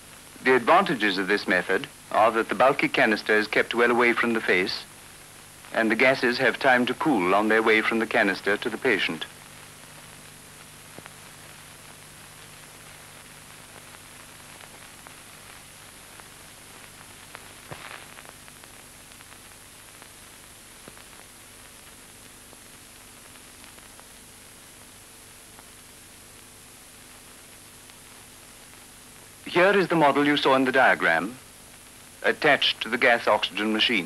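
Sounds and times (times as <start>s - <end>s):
faint low hum: 0.0s - 34.0s
film soundtrack hiss and crackle: 0.0s - 34.0s.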